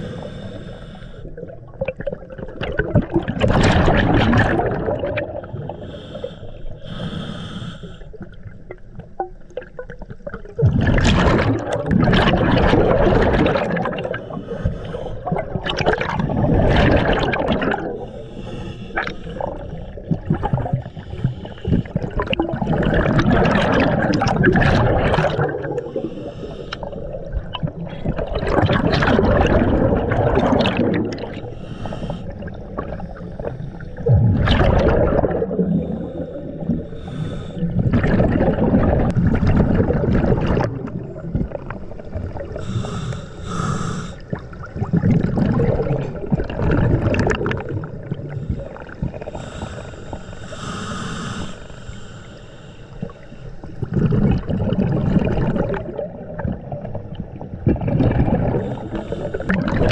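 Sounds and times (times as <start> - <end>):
diver exhaling bubbles underwater: 1.4 - 6.2, 8.2 - 18.2, 19.0 - 50.0, 53.6 - 59.9.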